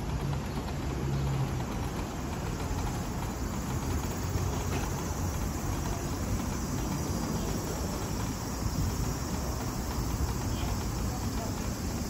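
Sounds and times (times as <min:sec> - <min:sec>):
constant hiss: 0:00.0 - 0:12.0
electric wheelchair rolling: 0:00.0 - 0:12.0.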